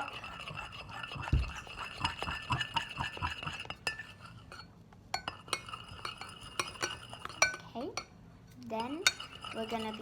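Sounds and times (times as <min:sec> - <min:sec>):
utensil scraping a bowl: 0:00.0 - 0:07.7, 0:08.6 - 0:10.0.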